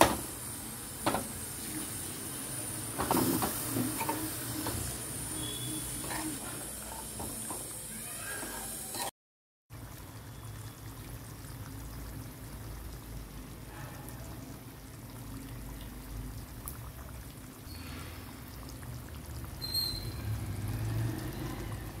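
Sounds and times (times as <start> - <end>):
gravy simmering and bubbling: 0.0 - 9.1, 9.7 - 22.0.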